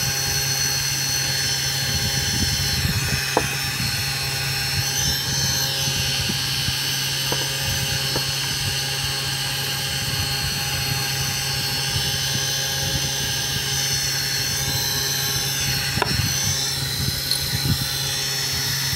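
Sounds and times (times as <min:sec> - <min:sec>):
spindle motor humming and whining: 0:00.0 - 0:18.9.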